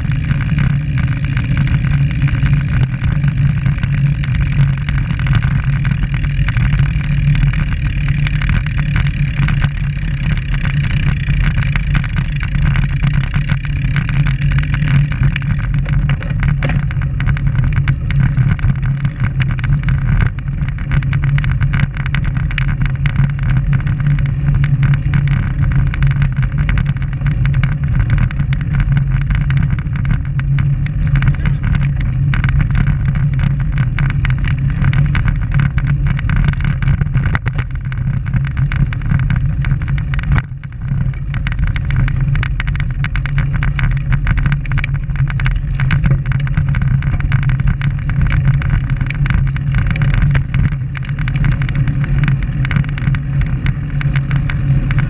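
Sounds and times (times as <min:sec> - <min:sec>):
strong low hum: 0:00.0 - 0:55.0
wind and road vibration: 0:00.0 - 0:55.0.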